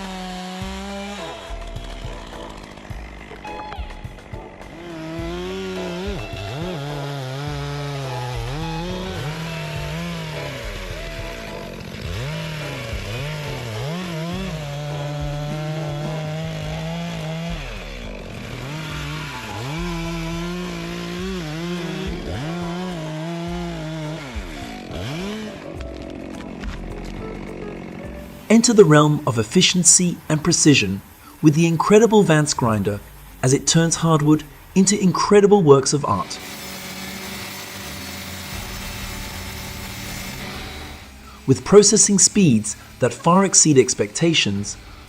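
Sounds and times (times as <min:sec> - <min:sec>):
chainsaw revving: 0:00.0 - 0:45.0.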